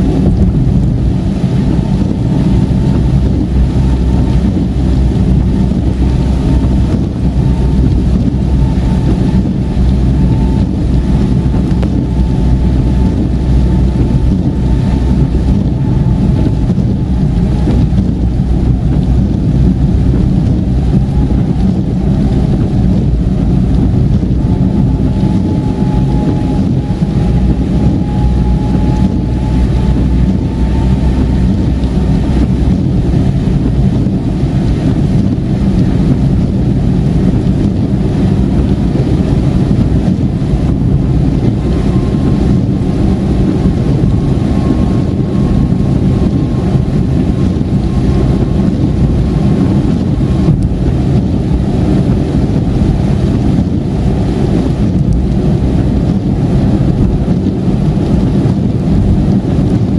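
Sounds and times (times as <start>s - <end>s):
car road and engine rumble: 0.0s - 59.9s
faint whine: 0.0s - 59.9s
tyre noise on wet road: 0.0s - 59.9s.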